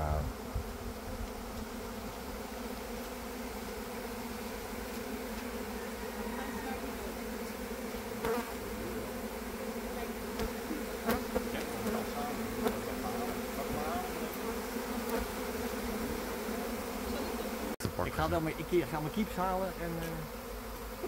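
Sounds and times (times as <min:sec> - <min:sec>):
swarm of bees buzzing: 0:00.0 - 0:21.0.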